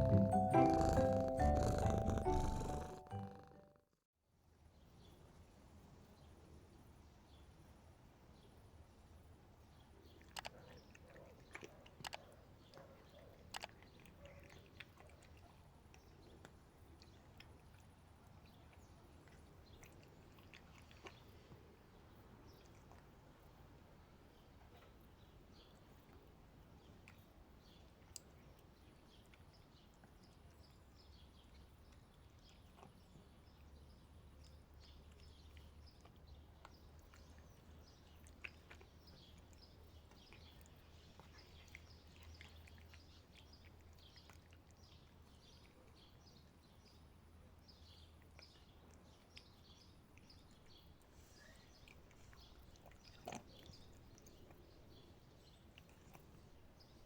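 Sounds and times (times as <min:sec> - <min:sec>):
cat chewing food: 0:00.0 - 0:03.7, 0:10.1 - 0:23.7, 0:25.8 - 0:57.0.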